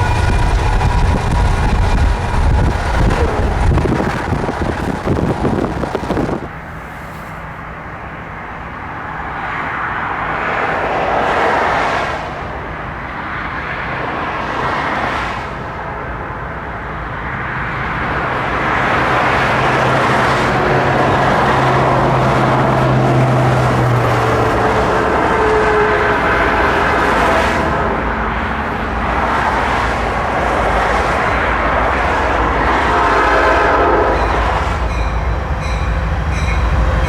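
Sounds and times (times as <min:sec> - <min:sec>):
train engine drone: 0:00.0 - 0:37.0
vehicles passing: 0:00.0 - 0:37.0.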